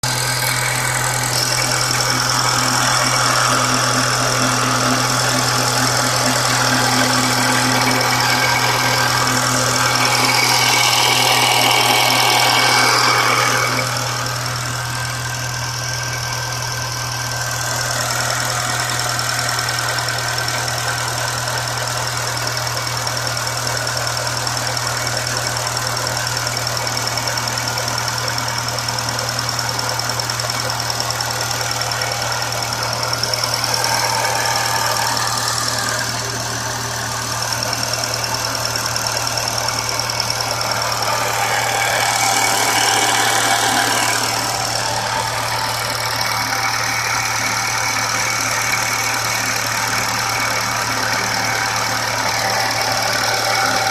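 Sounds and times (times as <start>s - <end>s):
engine idling: 0.0s - 53.9s
high-pitched engine whine: 0.0s - 53.9s.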